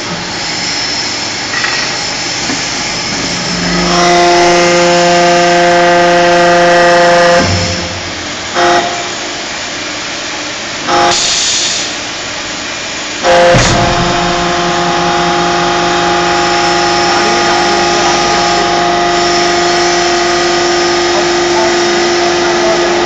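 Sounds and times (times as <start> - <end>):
machine hum: 0.0 - 11.3, 12.6 - 23.0
hydraulic press whine: 0.0 - 23.0.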